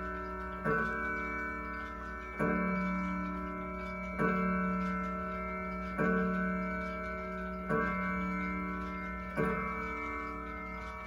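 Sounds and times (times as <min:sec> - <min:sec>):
clock chime striking: 0:00.0 - 0:11.0
clock ticking: 0:00.0 - 0:11.0.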